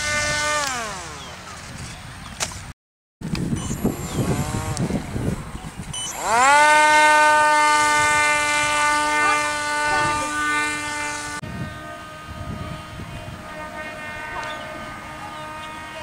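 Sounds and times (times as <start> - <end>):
model plane motor whining: 0.0 - 2.0, 3.3 - 16.0
wind rumbling on microphone: 0.0 - 16.0.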